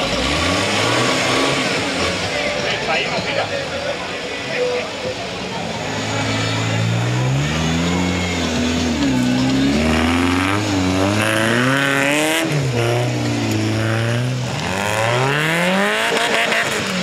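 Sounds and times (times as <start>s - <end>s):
buggy engine revving hard: 0.0s - 2.9s, 5.6s - 17.0s.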